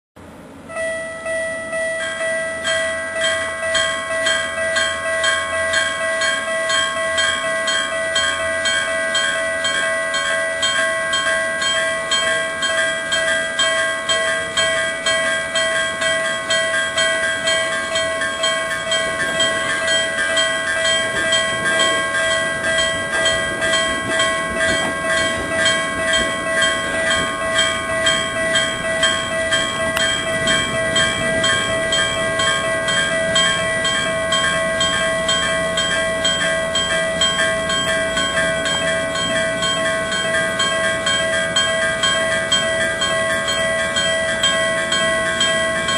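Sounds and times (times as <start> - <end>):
train passing: 0.2 - 45.9
level-crossing warning bell: 0.3 - 45.9.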